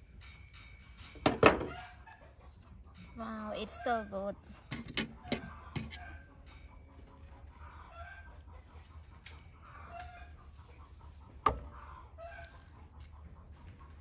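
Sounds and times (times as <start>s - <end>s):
chickens clucking: 1.6s - 14.0s.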